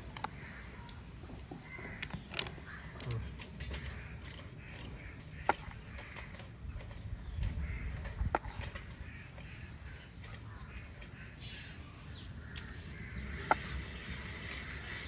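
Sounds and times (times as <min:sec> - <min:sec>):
sharp clicks and knocks: 0:00.0 - 0:11.5, 0:12.5 - 0:14.8
crows cawing: 0:00.2 - 0:06.6, 0:07.3 - 0:13.9.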